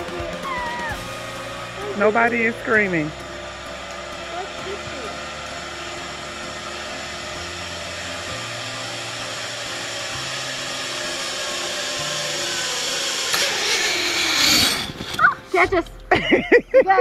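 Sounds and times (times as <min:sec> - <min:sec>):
zip line pulleys whirring: 0:00.0 - 0:15.6.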